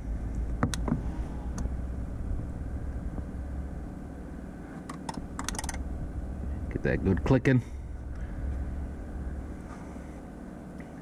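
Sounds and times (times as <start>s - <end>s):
heater blower humming: 0.0s - 11.0s.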